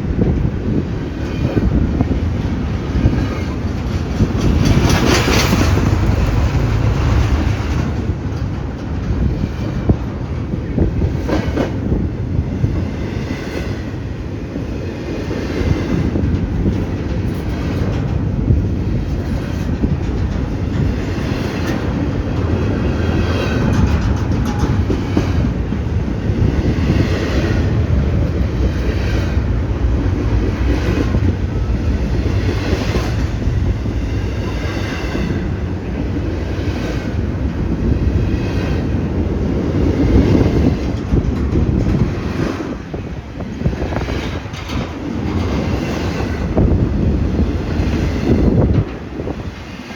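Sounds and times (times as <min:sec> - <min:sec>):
freight train rumbling: 0:00.0 - 0:49.9
wheels clacking over rail joints: 0:00.2 - 0:49.9.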